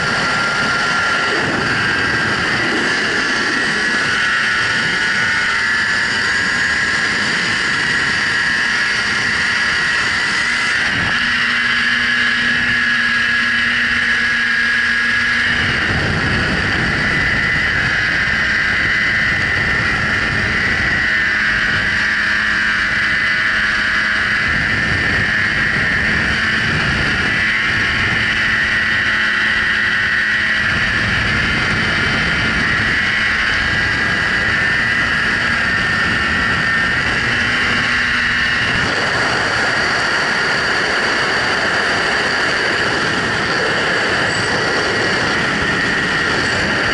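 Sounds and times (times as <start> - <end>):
high whine: 0.0 - 46.9
snowmobile engine and track noise: 0.0 - 46.9.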